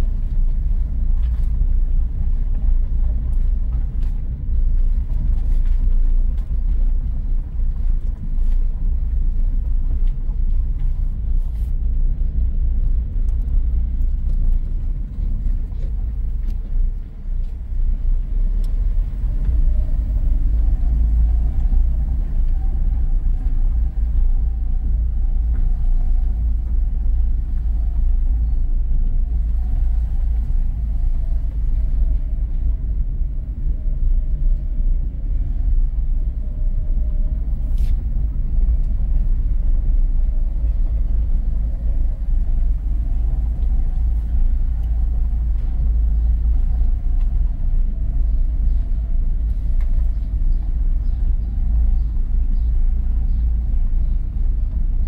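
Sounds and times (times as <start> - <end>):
car tyres rolling over cobblestones: 0.0 - 55.0.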